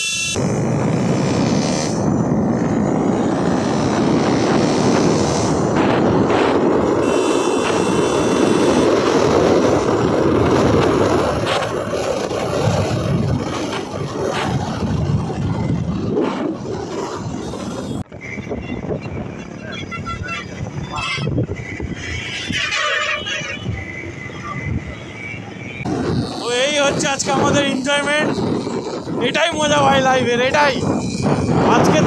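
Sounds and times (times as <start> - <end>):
motorcycle engine drone: 0.0 - 32.0
wind rushing over microphone: 0.0 - 32.0.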